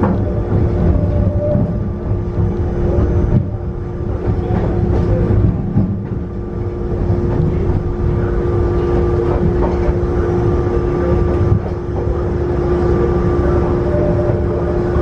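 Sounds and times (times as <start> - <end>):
electric train motor whine: 0.0 - 15.0
train wheels rumbling on rails: 0.0 - 15.0.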